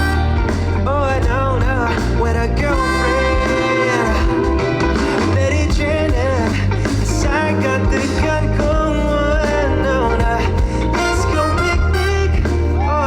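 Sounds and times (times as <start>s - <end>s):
live band music: 0.0s - 13.0s
sliding melodic lead line: 0.0s - 13.0s.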